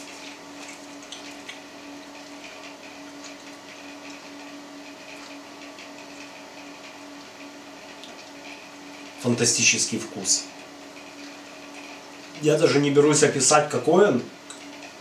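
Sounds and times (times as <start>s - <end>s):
machine hum with hiss: 0.0s - 15.0s.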